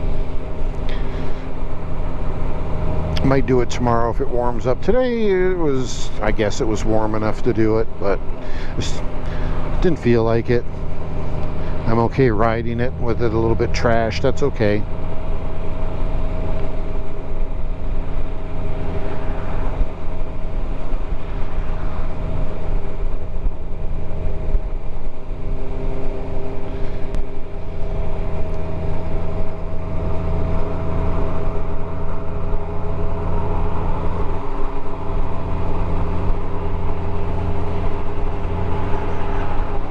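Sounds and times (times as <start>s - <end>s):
motorcycle engine droning: 0.0s - 39.9s
road and wind noise: 0.0s - 39.9s.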